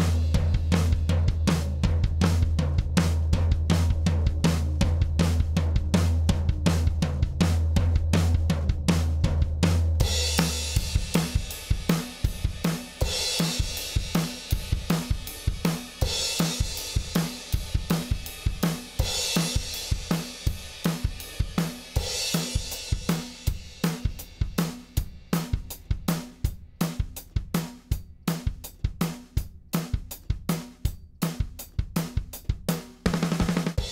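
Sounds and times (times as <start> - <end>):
drum kit groove: 0.0 - 33.9.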